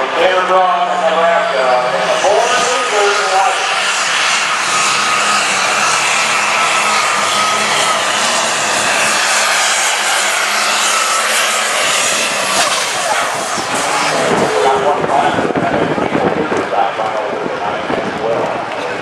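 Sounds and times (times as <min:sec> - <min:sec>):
high turbo whine: 0:00.0 - 0:19.0
tractor diesel engine roaring: 0:00.0 - 0:19.0.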